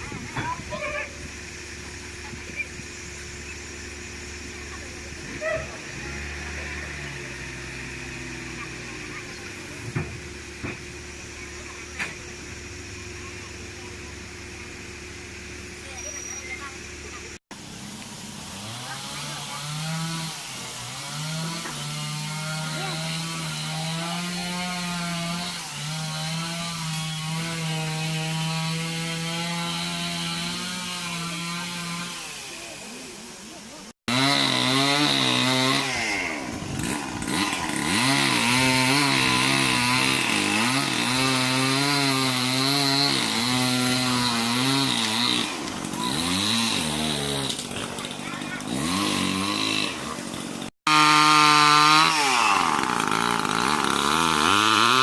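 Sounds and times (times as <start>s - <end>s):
chainsaw cutting wood: 0.0s - 12.7s, 17.9s - 55.0s.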